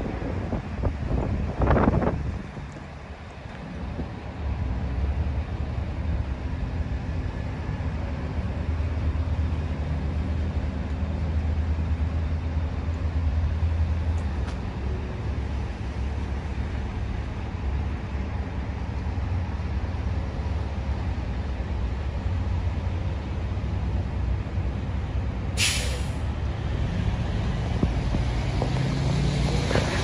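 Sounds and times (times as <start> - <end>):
bus diesel engine idling: 0.0 - 26.8.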